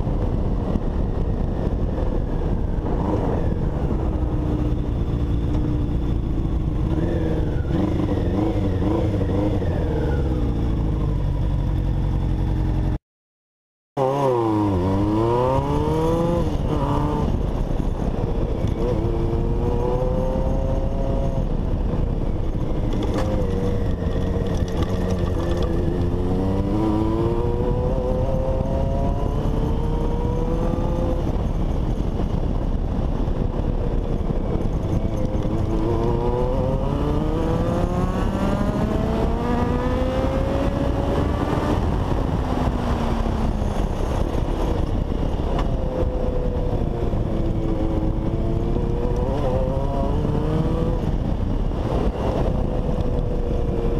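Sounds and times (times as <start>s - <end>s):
motorcycle engine revving: 2.4s - 13.0s, 14.0s - 53.9s.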